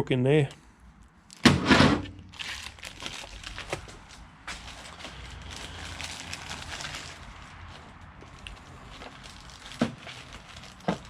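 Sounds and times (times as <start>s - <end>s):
packaging crinkling and tearing: 2.1s - 11.0s.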